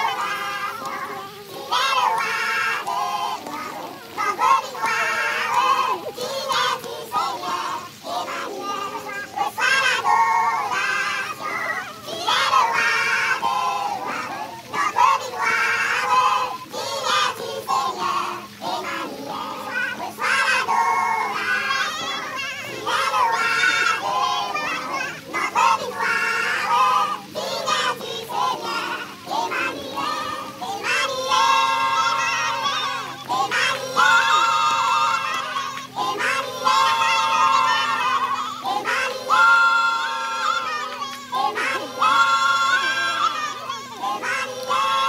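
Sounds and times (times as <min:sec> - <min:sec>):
high voices singing: 0:00.0 - 0:45.0.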